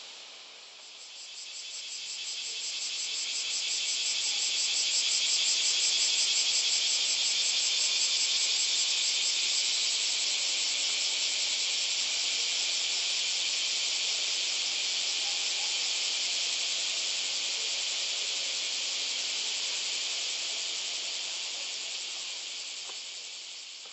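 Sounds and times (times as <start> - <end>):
cicadas buzzing: 0.0 - 23.9.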